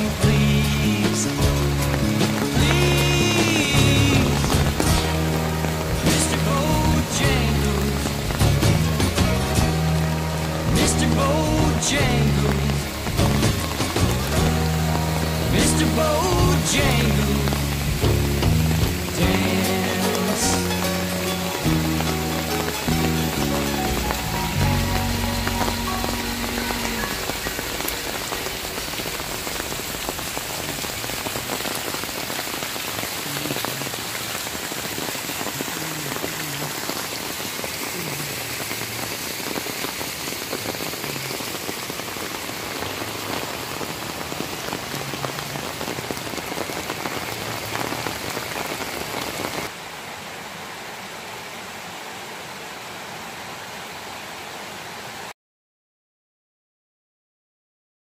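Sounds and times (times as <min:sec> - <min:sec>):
forest stream rushing: 0:00.0 - 0:55.3
rain on ground and leaves: 0:00.0 - 0:55.4
waterfall splashing into pool: 0:00.0 - 0:55.4.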